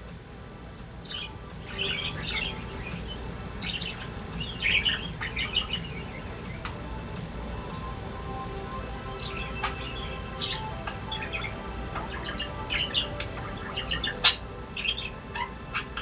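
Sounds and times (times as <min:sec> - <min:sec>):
budgerigars chirping and warbling: 0:00.5 - 0:16.0.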